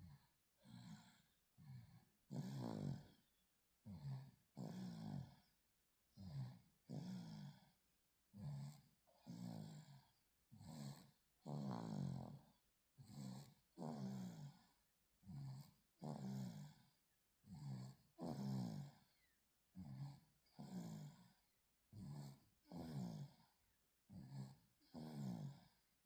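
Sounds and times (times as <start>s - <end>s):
baby snoring faintly: 0.0s - 26.0s.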